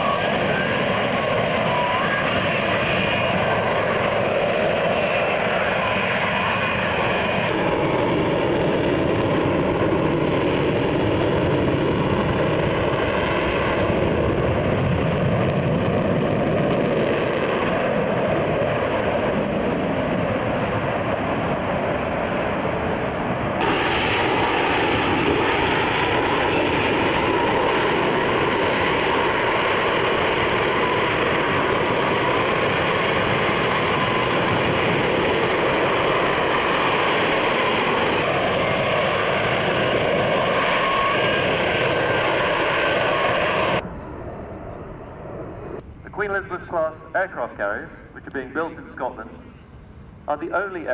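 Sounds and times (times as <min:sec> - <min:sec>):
jet fighter flying past: 0:00.0 - 0:50.9.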